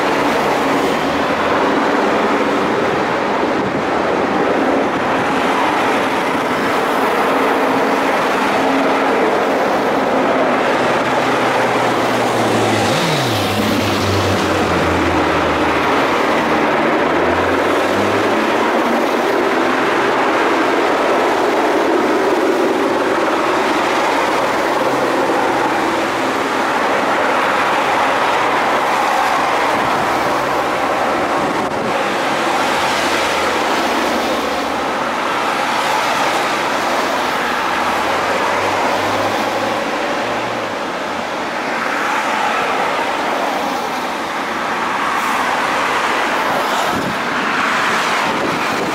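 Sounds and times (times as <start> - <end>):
vehicle engines passing: 0.0 - 48.9
tyres hissing on wet road: 6.5 - 48.9.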